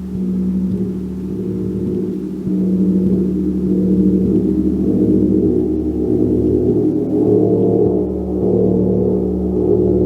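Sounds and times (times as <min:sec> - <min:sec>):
gong sustained tones: 0:00.0 - 0:10.0.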